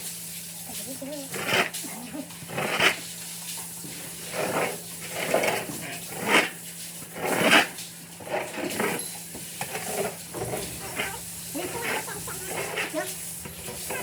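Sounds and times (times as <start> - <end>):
scraping on a floor: 1.3 - 1.8, 2.4 - 3.1, 3.8 - 14.0.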